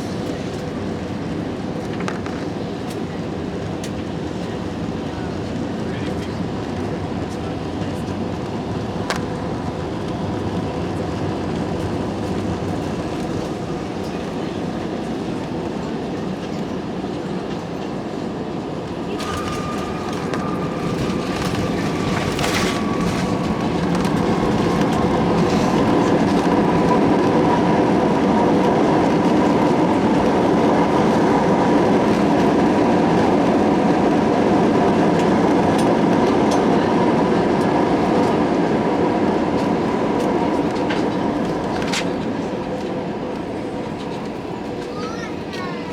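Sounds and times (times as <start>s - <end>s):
train rumbling on rails: 0.0s - 45.9s.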